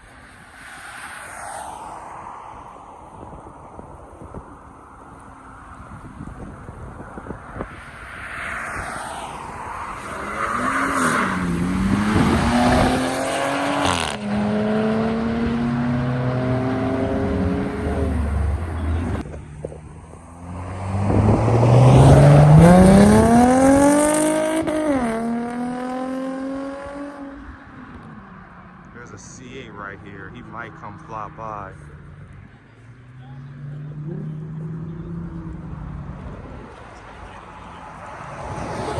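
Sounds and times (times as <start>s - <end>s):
car engines accelerating hard: 0.4s - 38.9s.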